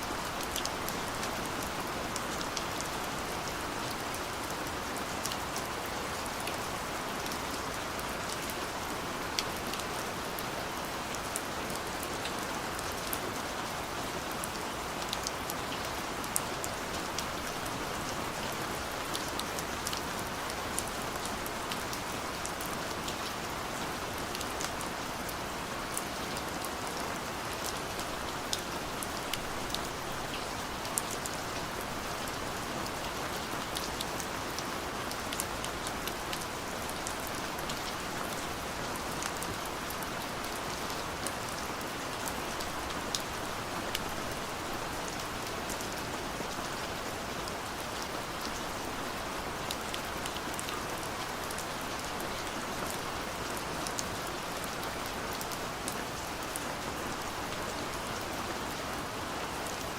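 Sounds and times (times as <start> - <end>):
steady rain falling: 0.0 - 59.9
raindrops ticking on a surface: 0.1 - 13.3, 14.2 - 58.3.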